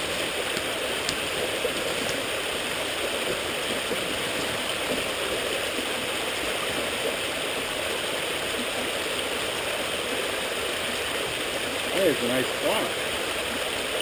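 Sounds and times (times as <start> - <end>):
water rushing over gravel: 0.0 - 14.0.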